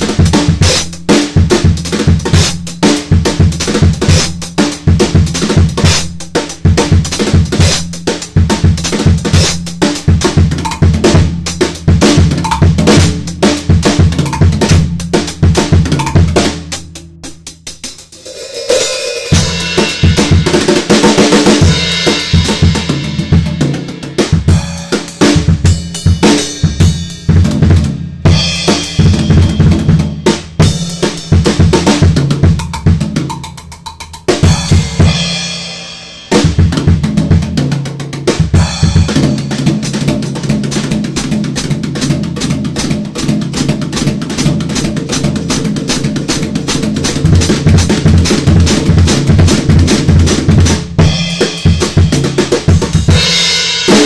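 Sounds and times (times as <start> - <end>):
drum kit played with sticks: 0.0 - 54.0.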